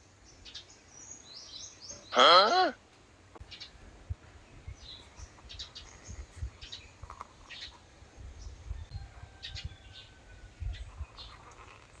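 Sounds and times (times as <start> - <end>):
small birds chirping: 0.0 - 2.4, 3.4 - 12.0.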